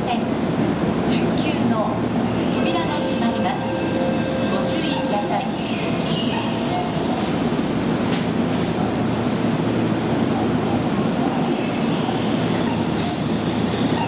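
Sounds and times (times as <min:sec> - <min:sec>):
electric train rumbling on track: 0:00.0 - 0:14.0.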